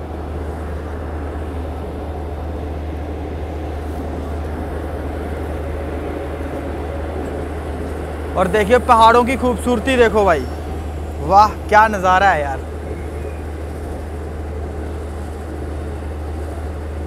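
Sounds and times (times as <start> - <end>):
train rumbling from inside coach: 0.0 - 17.0.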